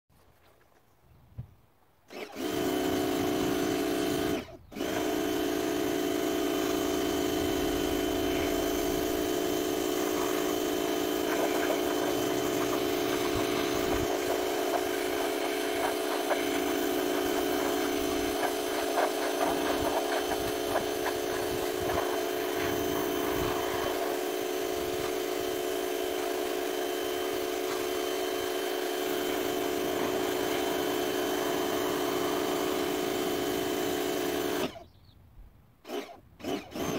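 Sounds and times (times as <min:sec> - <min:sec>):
pressure washer motor hum: 0:02.1 - 0:34.8.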